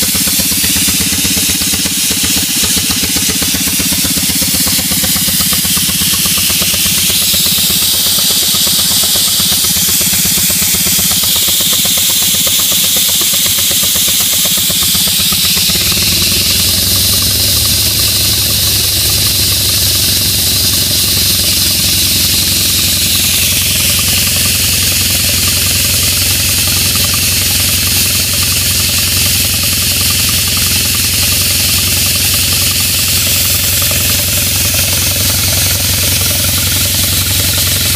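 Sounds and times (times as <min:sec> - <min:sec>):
air compressor pulsing: 0:00.0 - 0:37.9.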